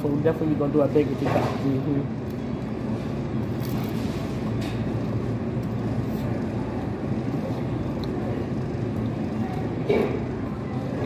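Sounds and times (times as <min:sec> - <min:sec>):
restaurant background rumble: 0:00.0 - 0:11.0.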